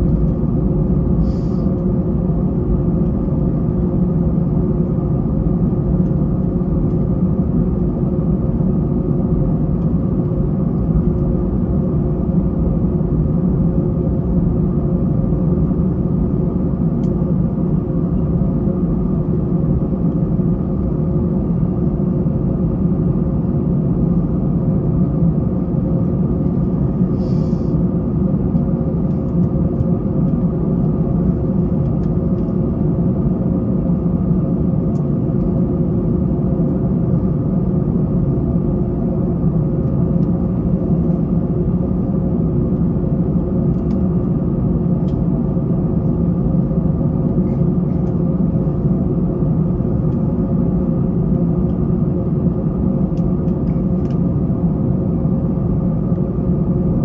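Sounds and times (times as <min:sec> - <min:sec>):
aircraft cabin rumble: 0:00.0 - 0:57.0
jet engines at low thrust: 0:00.0 - 0:57.0.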